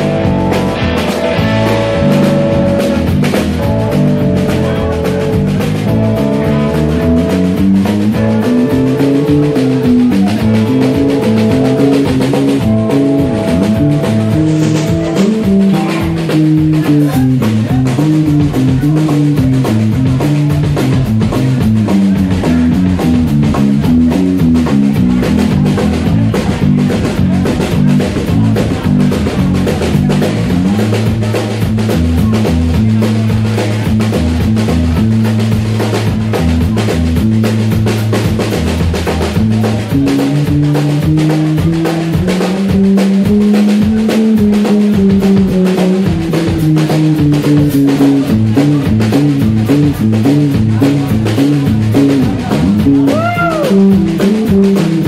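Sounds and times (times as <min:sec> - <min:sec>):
drum kit steady beat: 0:00.0 - 0:55.0
electric bass line: 0:00.0 - 0:55.0
electric guitar bending notes: 0:00.0 - 0:55.0.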